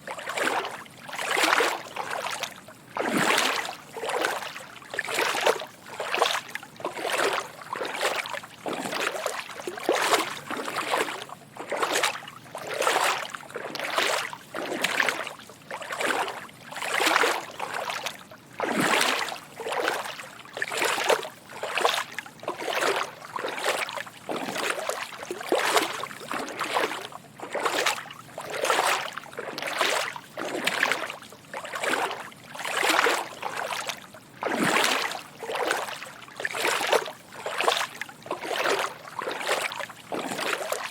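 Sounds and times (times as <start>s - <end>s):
footsteps wading through water: 0.0s - 40.9s.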